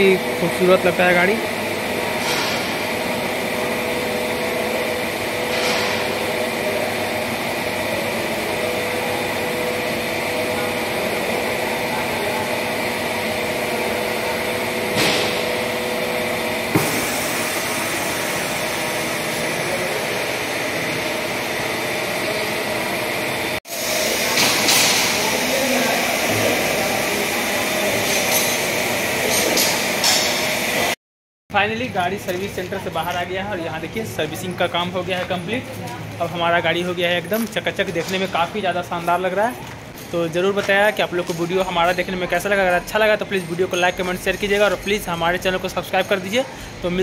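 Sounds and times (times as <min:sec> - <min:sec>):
workshop machinery hum and hiss: 0:00.0 - 0:47.0.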